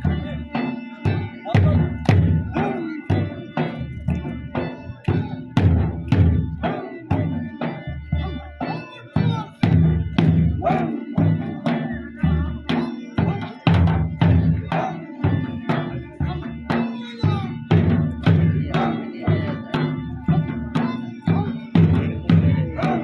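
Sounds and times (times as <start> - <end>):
driving drum beat: 0.0 - 23.0.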